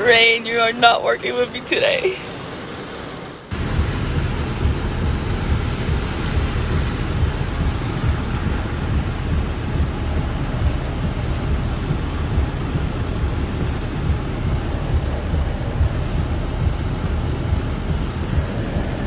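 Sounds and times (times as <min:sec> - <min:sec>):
continuous low rumble: 0:00.0 - 0:19.0
rain falling: 0:00.0 - 0:19.0.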